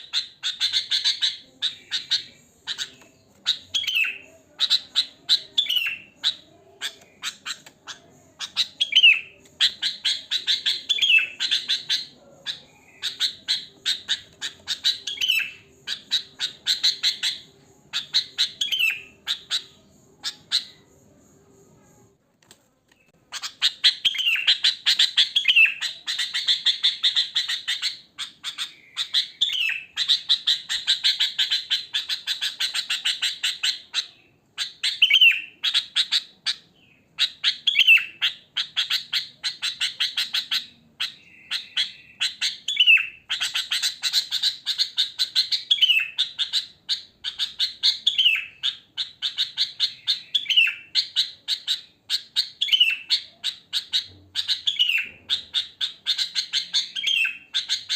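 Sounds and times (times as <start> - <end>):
bird rapid chattering: 0.0 - 21.6, 23.1 - 57.9.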